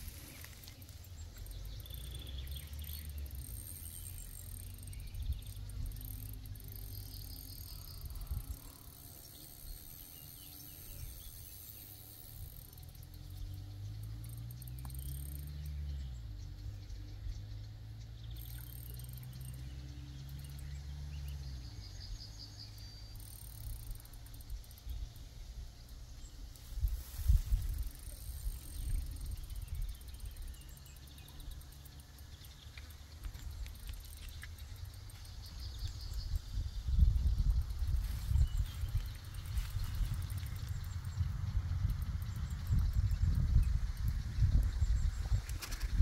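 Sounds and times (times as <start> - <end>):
insects chirping: 0.0 - 46.0
low engine hum: 0.0 - 46.0.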